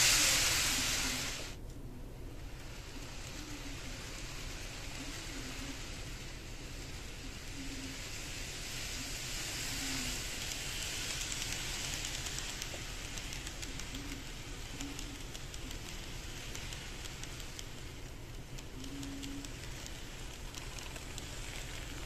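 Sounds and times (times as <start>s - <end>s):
model train whirring: 0.0s - 22.0s.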